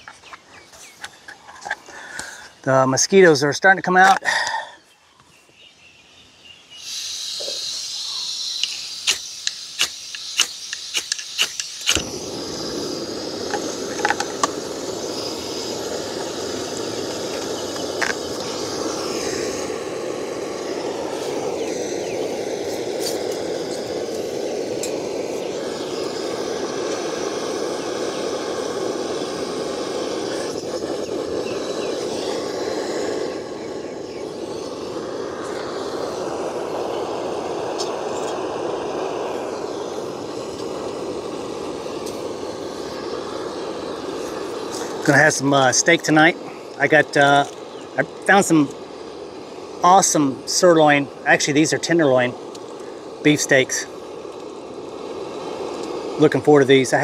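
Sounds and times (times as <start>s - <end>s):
gas burner rushing: 0.0s - 4.8s, 6.7s - 57.0s
gas hissing from valve: 0.0s - 4.8s, 6.7s - 57.0s.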